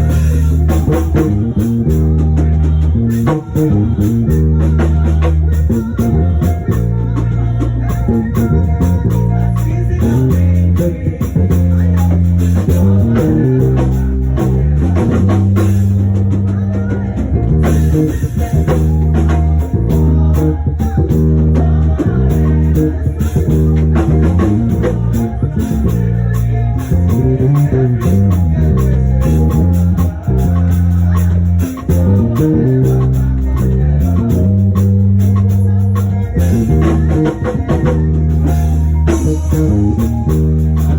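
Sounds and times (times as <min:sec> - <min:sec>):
bass guitar line: 0:00.0 - 0:40.9
guitar: 0:00.0 - 0:40.9
steady drum beat: 0:00.0 - 0:40.9.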